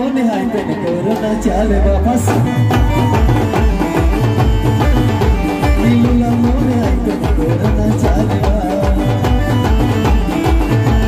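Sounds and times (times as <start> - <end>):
live band music: 0.0 - 11.0
bass drums beating: 1.1 - 11.0.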